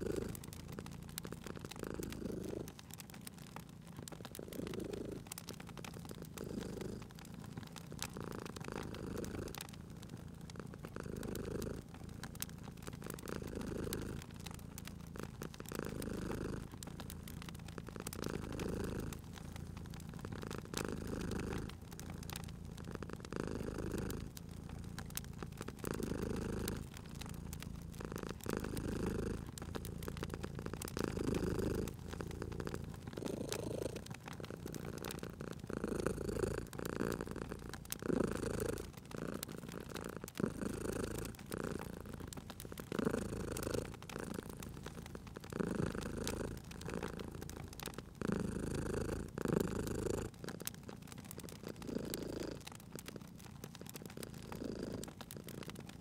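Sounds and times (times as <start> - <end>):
cat purring: 0.0 - 56.0
wood fire crackling: 0.0 - 56.0.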